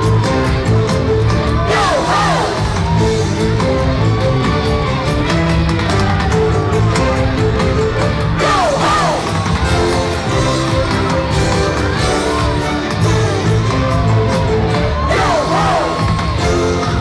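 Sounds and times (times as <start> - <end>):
upbeat party music: 0.0 - 17.0.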